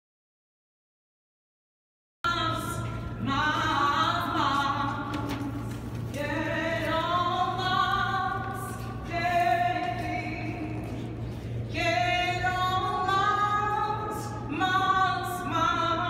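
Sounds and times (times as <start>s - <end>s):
steady low hum: 2.3s - 16.0s.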